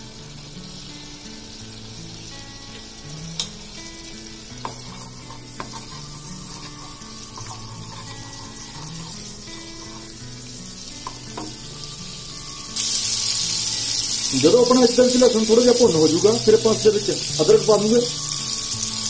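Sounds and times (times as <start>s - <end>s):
garlic sizzling in butter: 0.0s - 19.0s
soft background music: 0.0s - 19.0s.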